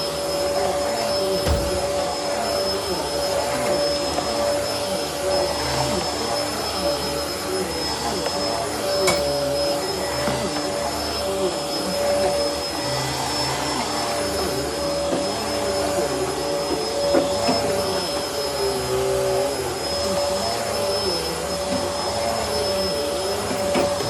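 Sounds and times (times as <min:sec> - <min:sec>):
vacuum cleaner motor whine: 0:00.0 - 0:24.0.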